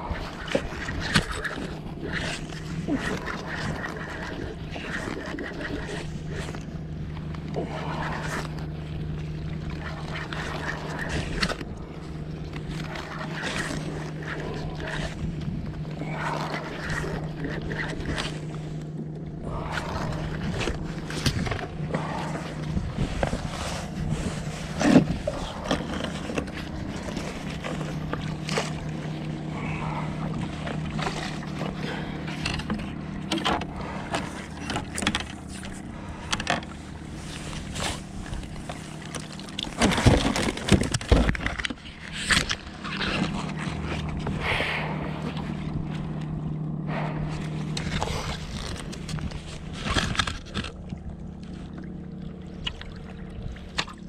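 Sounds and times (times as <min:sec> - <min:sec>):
steady low hum: 0:00.0 - 0:54.0
water washing around kayak: 0:00.0 - 0:54.0.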